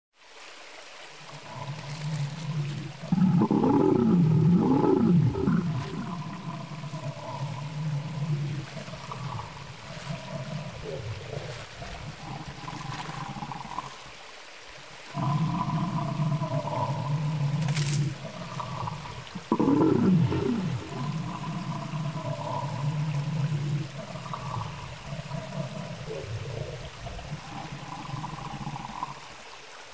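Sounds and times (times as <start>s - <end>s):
dinosaur roar: 1.3s - 14.0s, 15.1s - 29.2s
lower dinosaur calls: 1.3s - 14.0s, 15.1s - 29.2s.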